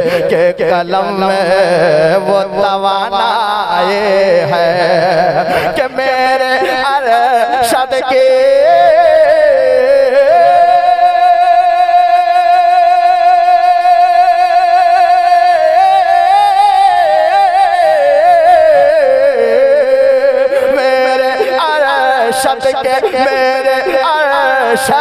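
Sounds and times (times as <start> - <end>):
man singing solo: 0.0 - 25.0.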